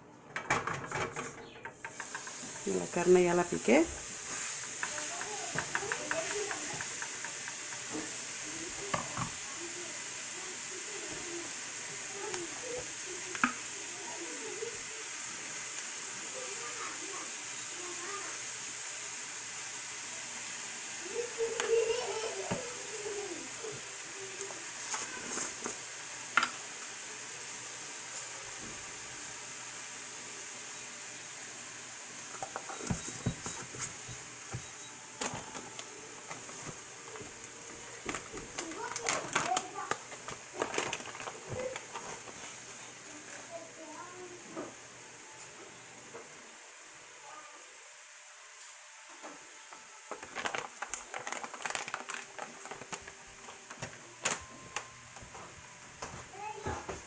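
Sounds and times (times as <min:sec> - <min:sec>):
meat sizzling in a frying pan: 0:01.7 - 0:54.1.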